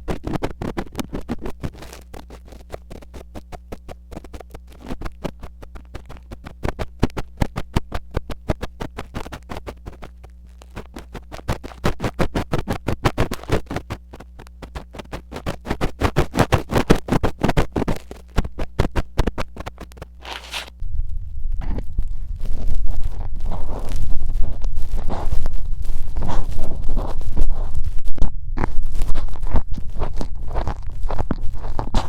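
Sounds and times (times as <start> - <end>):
metal ear pick scraping microphone: 0.0 - 20.9, 21.5 - 32.0
steady low hum: 0.0 - 32.0.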